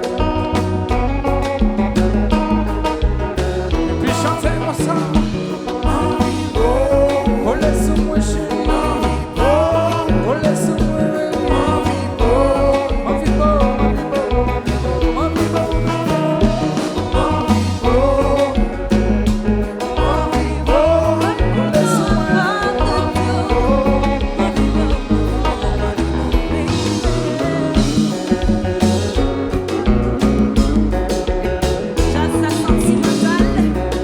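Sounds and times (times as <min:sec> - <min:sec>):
live band dance music: 0:00.0 - 0:34.0
person singing: 0:03.9 - 0:31.4, 0:32.0 - 0:34.0.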